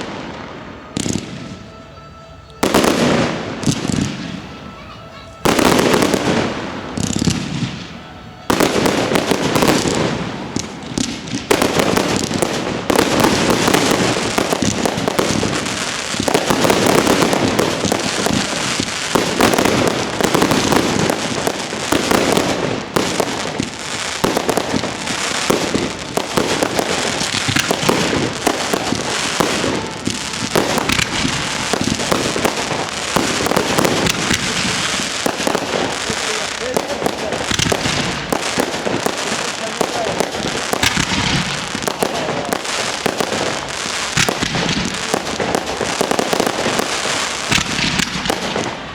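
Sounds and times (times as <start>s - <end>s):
fireworks bangs and crackling: 0.0s - 48.9s
loud firework burst: 2.6s - 48.9s.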